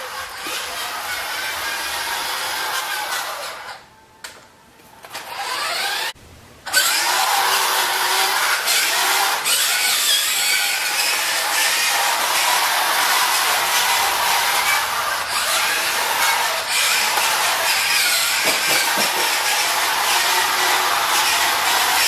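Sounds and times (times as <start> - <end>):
toy truck motor whining: 0.0 - 3.9, 5.0 - 22.0.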